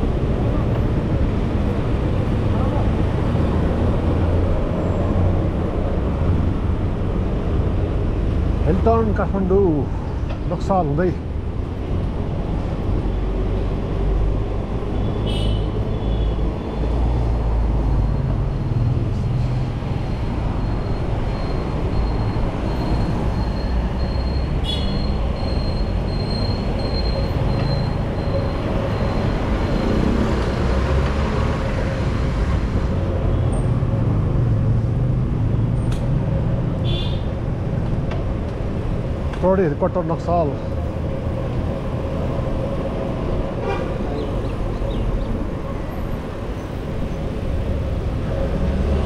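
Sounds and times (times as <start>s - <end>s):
road traffic noise: 0.0s - 49.0s.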